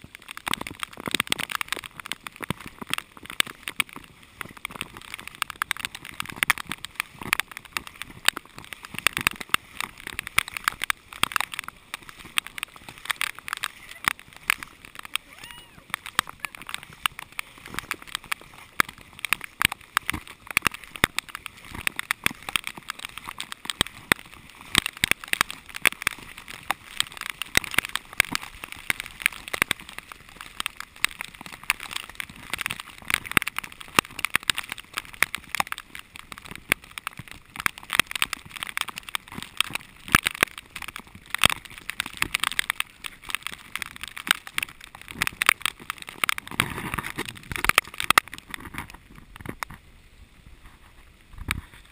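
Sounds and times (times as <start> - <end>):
raindrops tapping on camera: 0.0 - 51.9
heavy rain hiss: 3.2 - 47.2.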